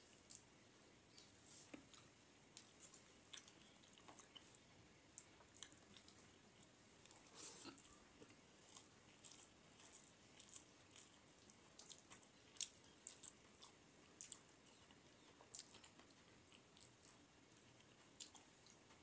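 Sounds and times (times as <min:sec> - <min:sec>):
man chewing with wet clicks: 0:00.0 - 0:19.0.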